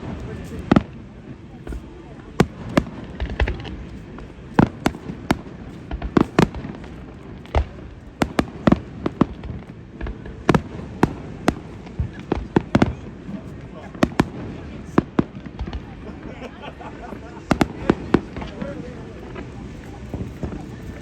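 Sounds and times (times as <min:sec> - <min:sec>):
fireworks bangs and booms: 0:00.0 - 0:16.4, 0:17.4 - 0:21.0.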